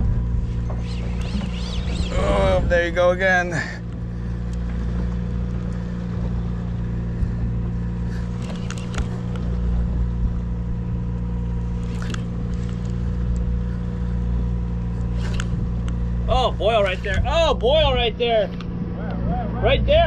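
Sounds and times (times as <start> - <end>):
boat engine hum: 0.0 - 20.0.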